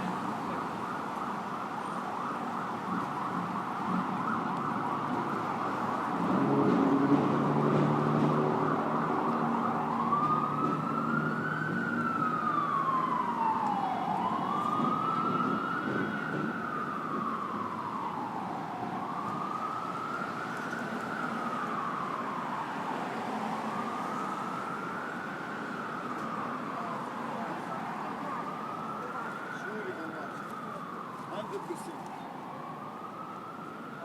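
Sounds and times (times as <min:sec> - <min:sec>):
city street traffic: 0:00.0 - 0:34.0
emergency siren wailing: 0:00.0 - 0:34.0.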